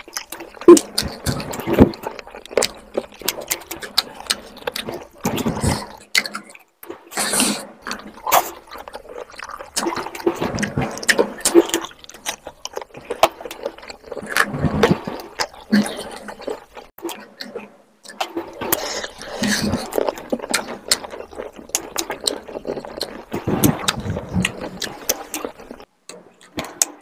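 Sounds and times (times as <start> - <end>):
sticky food squelches: 0.0 - 27.0
wet chewing and lip smacking: 0.0 - 27.0.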